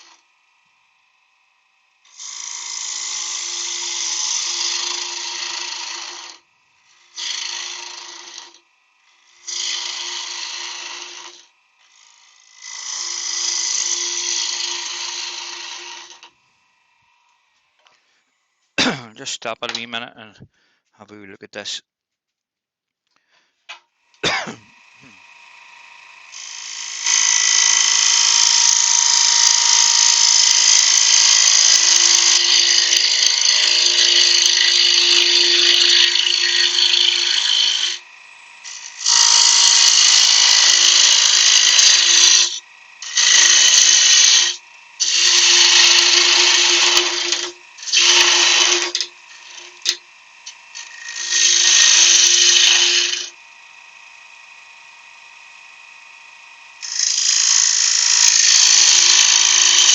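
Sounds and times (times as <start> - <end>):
gouge cutting spinning wood: 0.0 - 19.8, 23.9 - 59.9
wood lathe whine: 0.0 - 19.8, 23.2 - 59.9.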